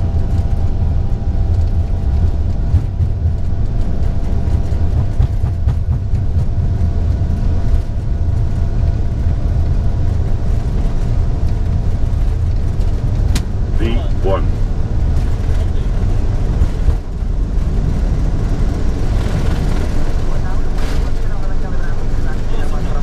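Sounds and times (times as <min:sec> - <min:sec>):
jet engine noise: 0:00.0 - 0:23.0
wheel and runway rumble: 0:00.0 - 0:23.0.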